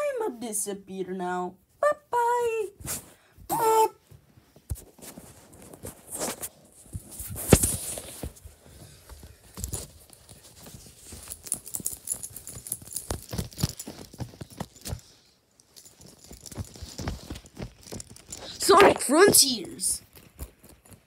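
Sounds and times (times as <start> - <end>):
fabric rustling: 4.0 - 21.0.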